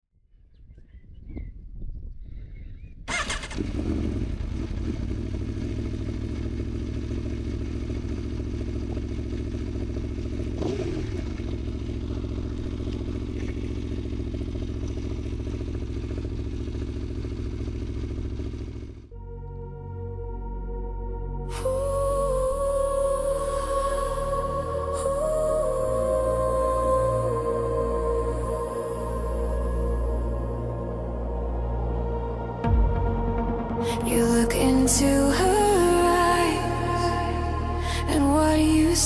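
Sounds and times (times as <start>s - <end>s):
motorcycle engine starting and idling: 3.1s - 19.7s, 21.6s - 39.0s.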